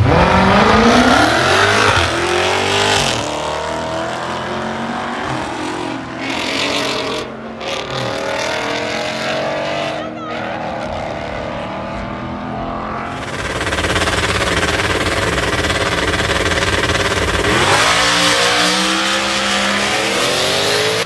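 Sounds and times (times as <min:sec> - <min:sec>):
drag racing car accelerating: 0:00.0 - 0:21.0.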